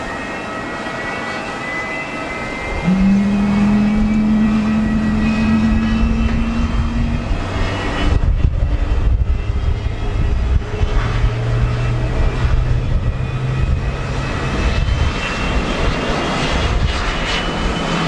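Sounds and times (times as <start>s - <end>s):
jet engines running: 0.0s - 18.0s
wind on microphone: 2.4s - 18.0s.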